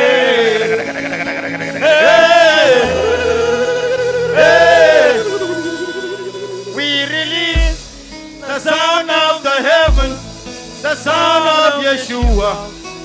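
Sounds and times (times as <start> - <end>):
sustained keyboard chords: 0.0 - 13.0.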